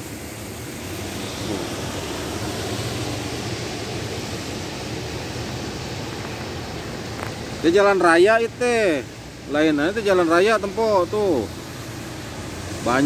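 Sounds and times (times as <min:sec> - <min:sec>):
low engine hum: 0:00.0 - 0:07.7, 0:08.8 - 0:13.0
water churning and splashing: 0:00.0 - 0:13.0.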